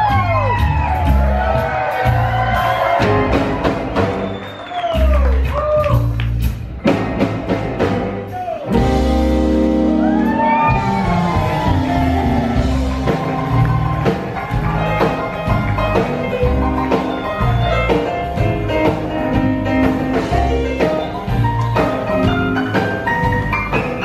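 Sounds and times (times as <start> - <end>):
rockabilly band playing: 0.0 - 24.0.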